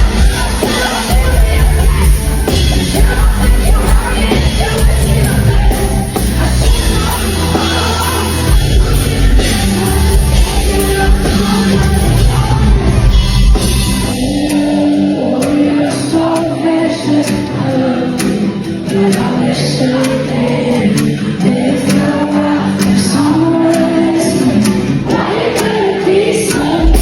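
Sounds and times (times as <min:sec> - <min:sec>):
pop song with layered vocals: 0:00.0 - 0:27.0.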